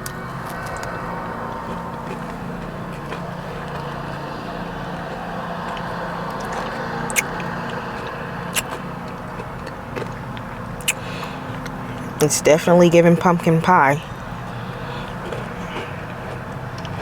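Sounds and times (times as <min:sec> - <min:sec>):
car idling hum: 0:00.0 - 0:17.0.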